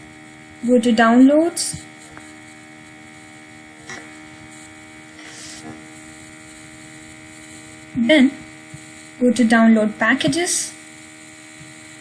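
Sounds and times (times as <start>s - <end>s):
low electrical hum and buzz: 0.0s - 12.0s.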